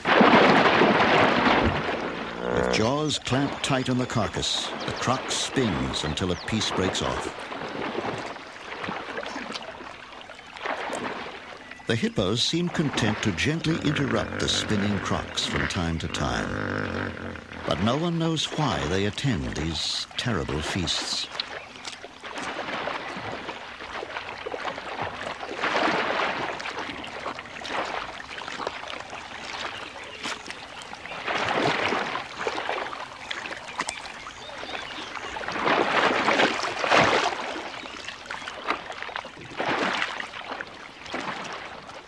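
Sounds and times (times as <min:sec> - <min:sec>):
muddy water splashing and churning: 0:00.0 - 0:42.0.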